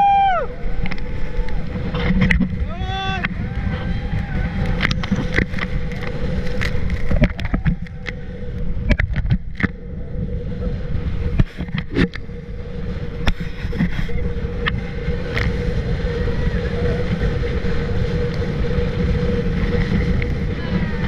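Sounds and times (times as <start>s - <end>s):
motorboat engine drone: 0.0s - 21.0s
wind buffeting microphone: 0.0s - 21.0s.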